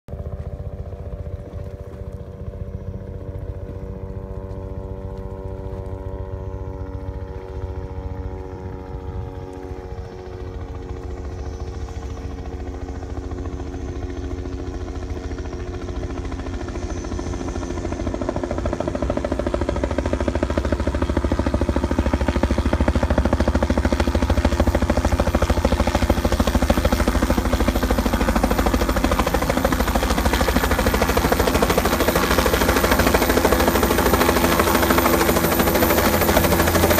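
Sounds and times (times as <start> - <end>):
helicopter engine hum: 0.1 - 36.9
helicopter rotor blades chopping: 0.1 - 36.9.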